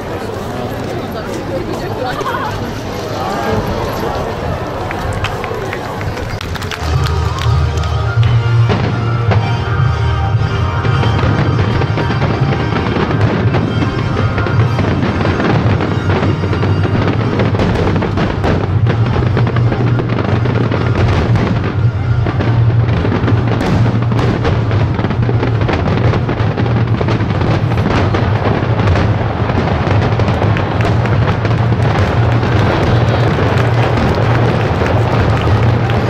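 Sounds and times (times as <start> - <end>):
fireworks booming and crackling: 0.0 - 36.0.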